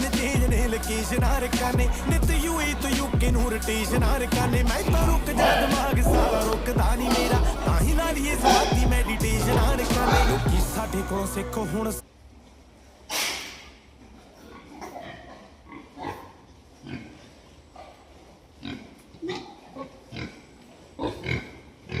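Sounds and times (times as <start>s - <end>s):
pigs grunting: 0.0s - 10.8s, 14.0s - 22.0s.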